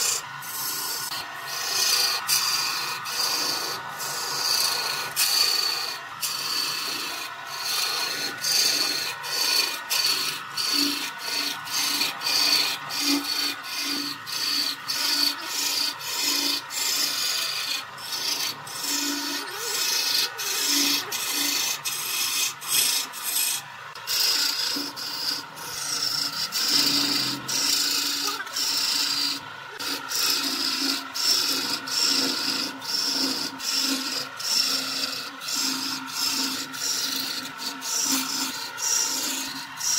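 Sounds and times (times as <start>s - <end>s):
lathe tool scraping wood: 0.0s - 39.9s.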